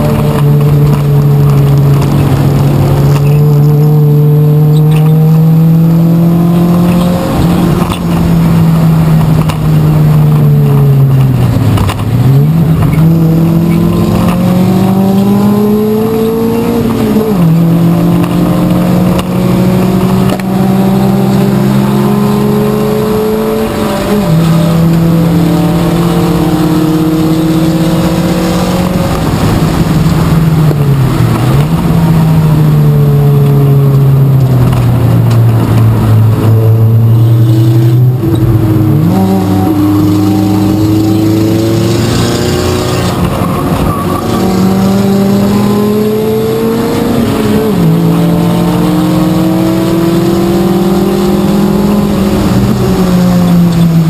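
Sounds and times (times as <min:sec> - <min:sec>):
race car engine running: 0:00.0 - 0:54.0.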